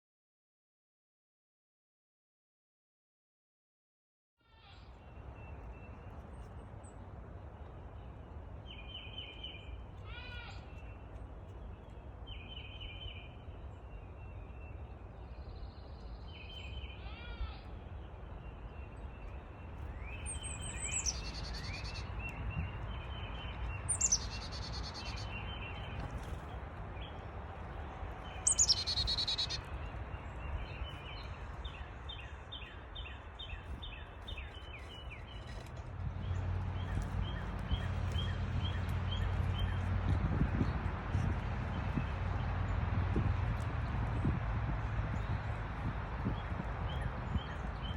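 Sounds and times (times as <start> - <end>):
small birds chirping: 4.8 - 47.9.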